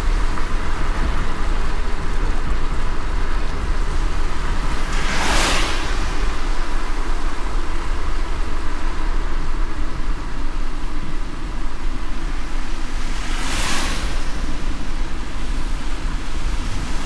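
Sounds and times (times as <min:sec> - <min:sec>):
car road and engine rumble: 0:00.0 - 0:17.0
rain hiss: 0:00.0 - 0:17.0.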